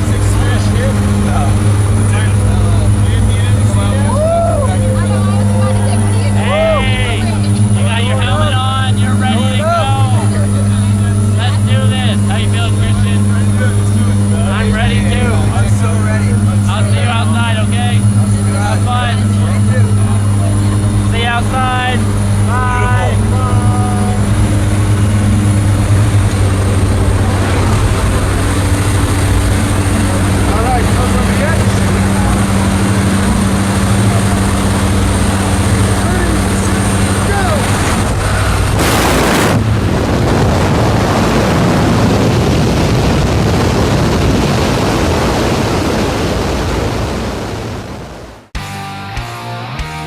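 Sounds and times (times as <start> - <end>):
wind buffeting microphone: 0.0 - 48.5
plane engine and propeller drone: 0.0 - 48.6.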